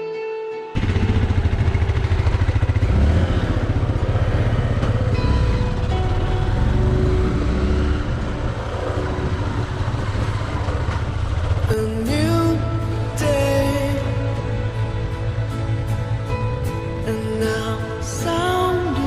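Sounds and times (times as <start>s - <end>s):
motorcycle engine running: 0.8s - 19.0s.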